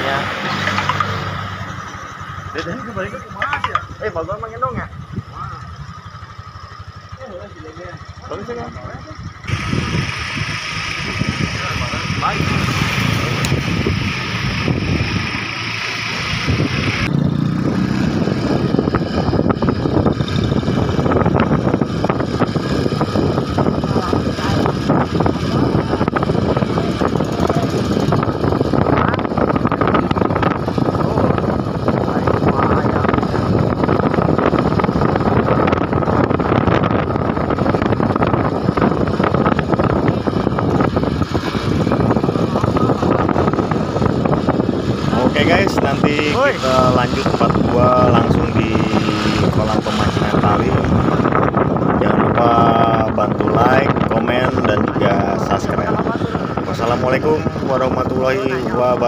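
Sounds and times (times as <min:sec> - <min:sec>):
motorcycle engine running: 0:00.0 - 0:59.0
road rumble: 0:00.0 - 0:59.0
wind buffeting microphone: 0:00.0 - 0:59.0.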